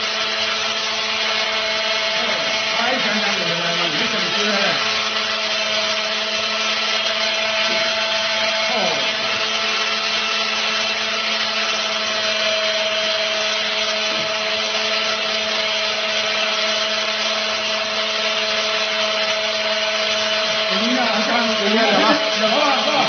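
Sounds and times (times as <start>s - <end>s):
angle grinder running: 0.0s - 23.0s.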